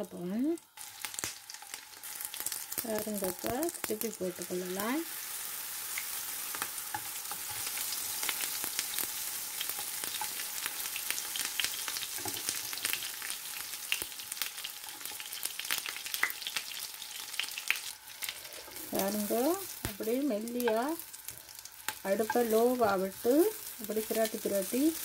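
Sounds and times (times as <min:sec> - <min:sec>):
frying oil sizzling and popping: 0:00.0 - 0:25.0.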